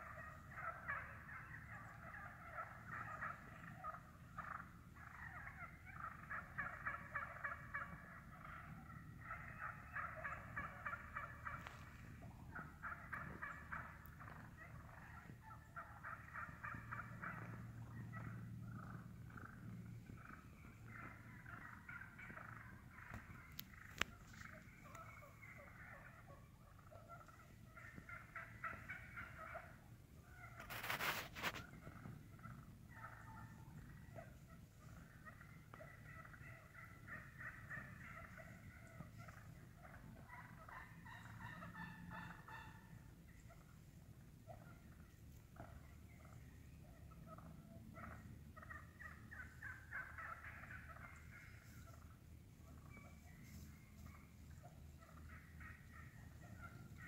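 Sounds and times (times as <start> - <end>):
turkeys purring and clucking: 0.0 - 57.0
turkeys rolling trills: 0.0 - 57.0.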